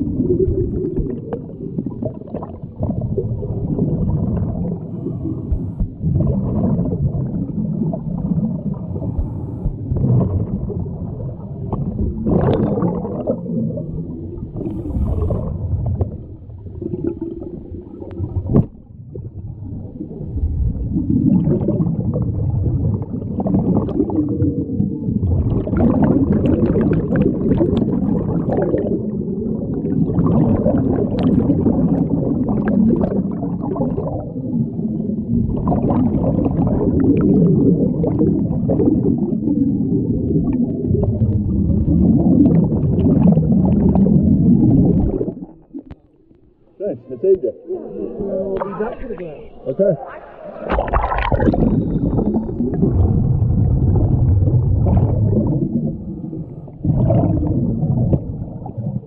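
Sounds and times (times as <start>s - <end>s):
underwater bubbling: 0.0s - 59.0s.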